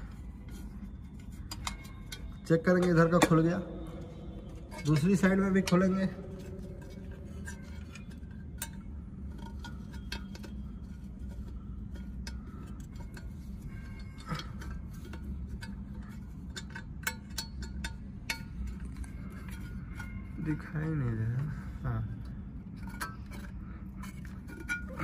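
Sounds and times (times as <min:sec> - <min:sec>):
low steady hum: 0:00.0 - 0:25.0
small metallic clicks and scrapes: 0:00.0 - 0:25.0.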